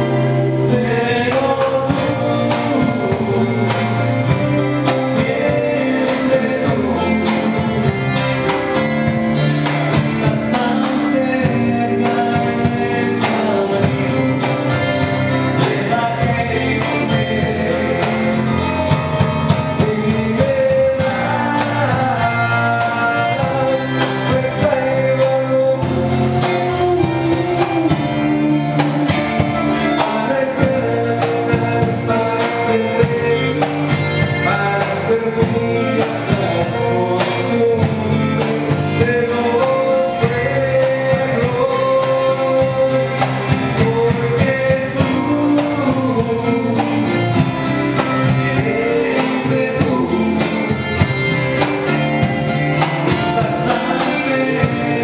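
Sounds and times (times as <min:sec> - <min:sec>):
acoustic guitars: 0:00.0 - 0:55.0
keyboard: 0:00.0 - 0:55.0
percussion: 0:00.0 - 0:55.0
person singing: 0:00.0 - 0:55.0.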